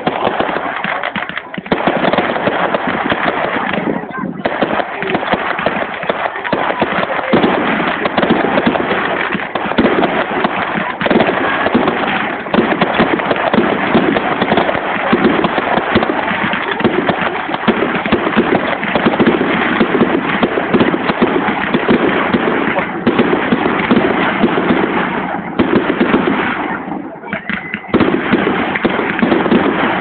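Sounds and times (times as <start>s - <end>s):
fireworks bangs and crackle: 0.0s - 30.0s.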